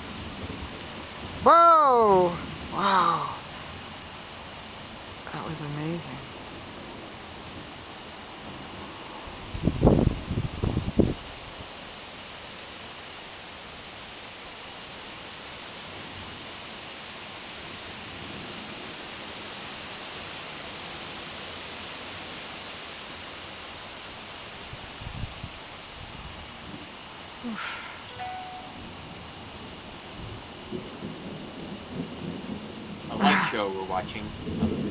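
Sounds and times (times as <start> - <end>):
night insects buzzing: 0.0 - 34.9
outdoor hiss: 0.0 - 34.9.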